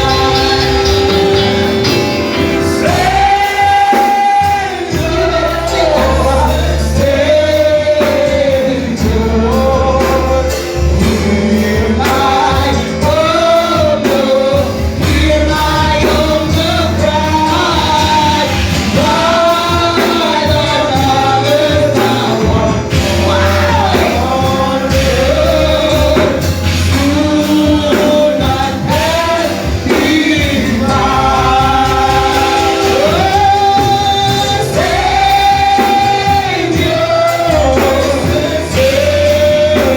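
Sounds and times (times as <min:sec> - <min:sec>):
voices singing gospel music: 0:00.0 - 0:39.9.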